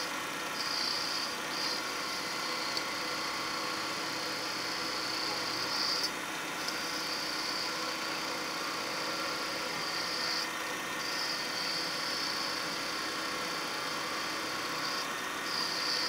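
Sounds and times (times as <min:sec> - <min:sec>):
turning tool cutting wood: 0:00.0 - 0:16.0
wood lathe humming: 0:00.0 - 0:16.0.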